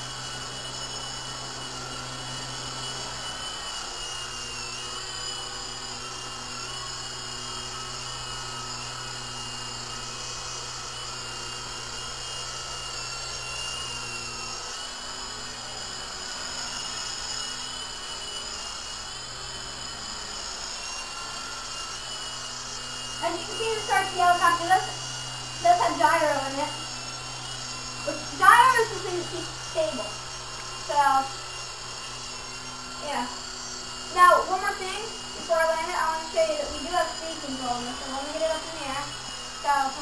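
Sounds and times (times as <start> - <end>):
rc helicopter rotors whining: 0.0 - 40.0.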